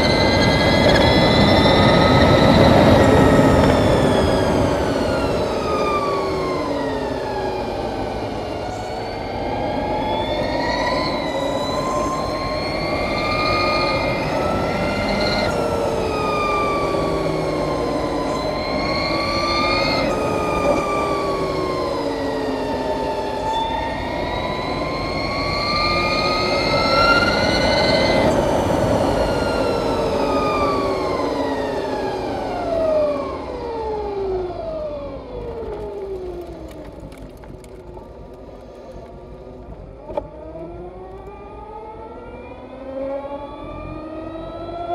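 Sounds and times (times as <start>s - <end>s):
wind noise: 0.0s - 40.5s
electric motorcycle drivetrain whining: 0.0s - 44.9s.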